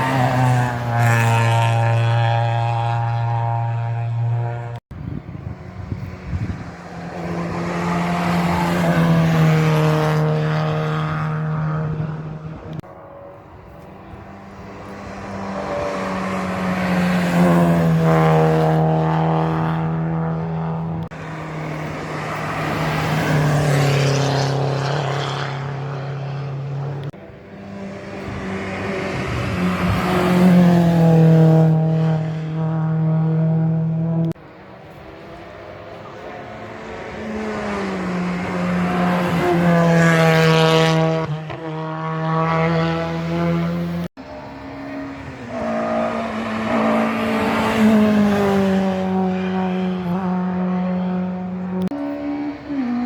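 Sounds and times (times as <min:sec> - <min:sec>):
racing car engines passing: 0:00.0 - 0:53.0.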